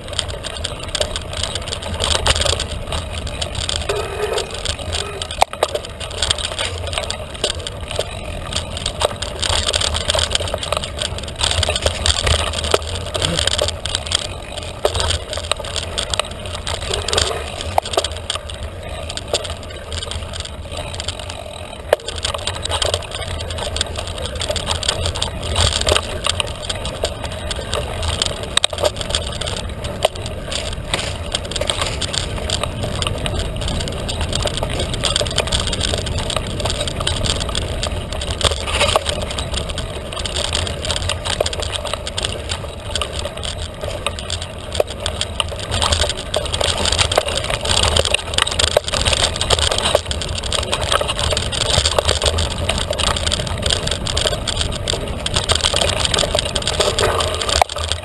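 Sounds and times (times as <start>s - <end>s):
bike rattling over bumps: 0.0s - 58.0s
wind and tyre rumble: 0.0s - 58.0s.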